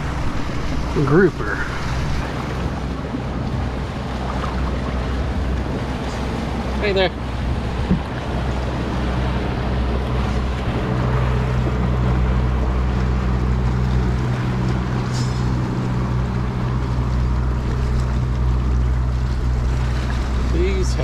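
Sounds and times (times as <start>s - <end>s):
motorboat engine humming: 0.0s - 21.0s
wind: 0.0s - 21.0s.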